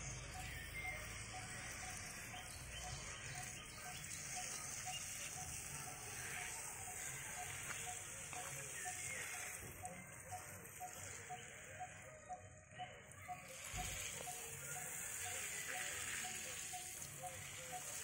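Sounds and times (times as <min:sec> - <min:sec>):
high-pitched insect drone: 0:00.0 - 0:11.7, 0:13.0 - 0:18.0.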